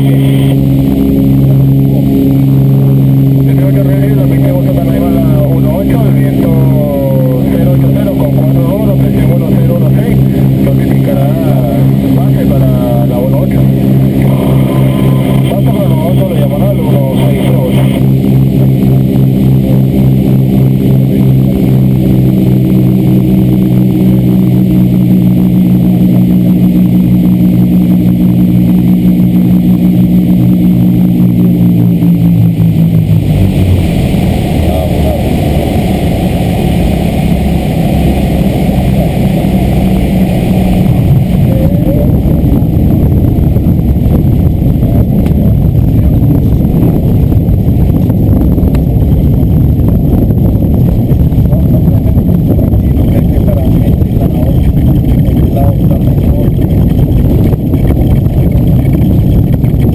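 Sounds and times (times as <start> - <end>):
twin aircraft engines droning: 0.0 - 59.9
tyres rumbling on runway: 0.0 - 59.9.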